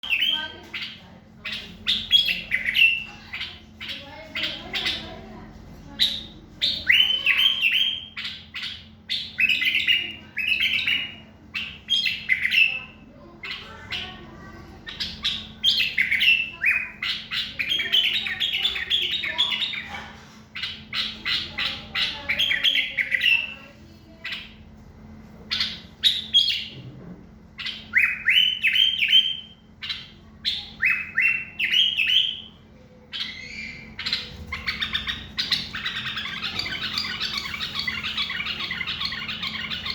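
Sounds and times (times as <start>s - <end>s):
bulbul singing: 0.0s - 5.3s, 5.9s - 24.7s, 25.5s - 26.8s, 27.5s - 39.9s.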